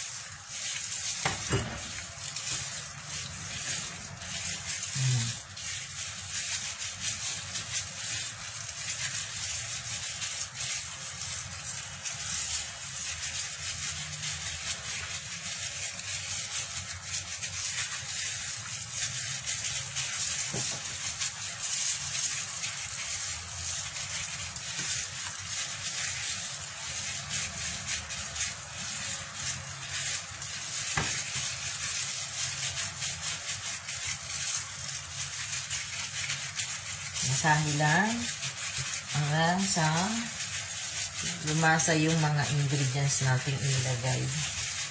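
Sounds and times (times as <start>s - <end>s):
wet rubbing of kneaded meat: 0.0s - 44.9s.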